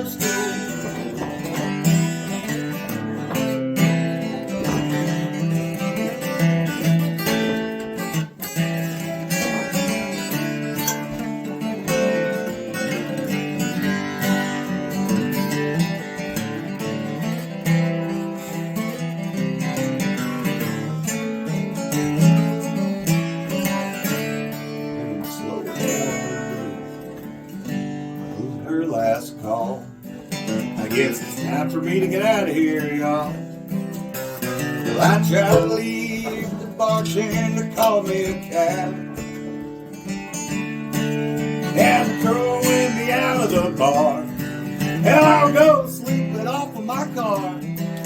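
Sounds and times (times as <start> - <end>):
country band playing: 0.0 - 48.0
strummed acoustic guitar: 0.0 - 48.0.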